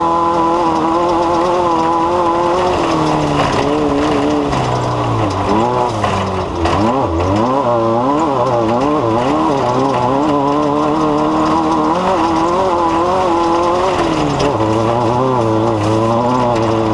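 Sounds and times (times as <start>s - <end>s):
engine revving: 0.0s - 16.9s.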